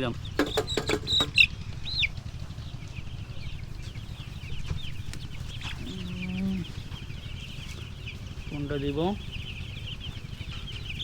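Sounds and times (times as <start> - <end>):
chicks peeping: 0.0 - 11.0
low steady rumble: 0.0 - 11.0.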